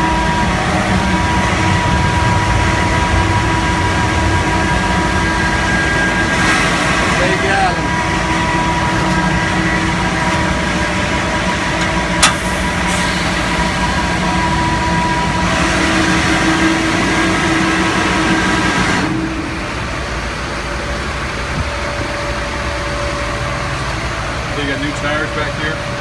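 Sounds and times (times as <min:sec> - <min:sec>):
fuel pump whine: 0:00.0 - 0:26.0
truck engine running: 0:00.0 - 0:26.0.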